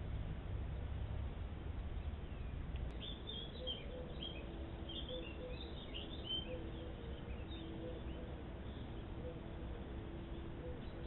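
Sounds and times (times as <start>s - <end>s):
low background rumble: 0.0s - 11.0s
small birds chirping: 1.8s - 11.0s.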